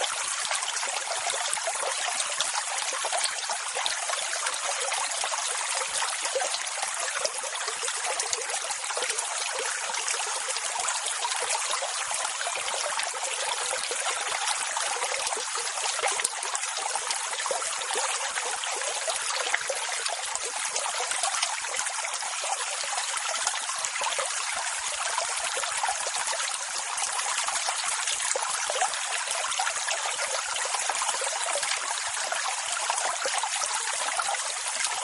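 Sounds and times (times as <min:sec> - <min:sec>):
water rushing and fizzing: 0:00.0 - 0:35.0.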